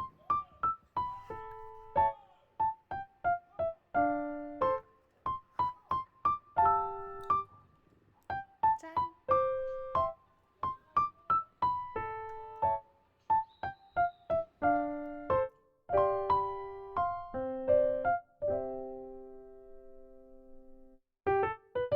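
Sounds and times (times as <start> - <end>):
solo electric piano melody: 0.0 - 7.6, 8.3 - 21.9.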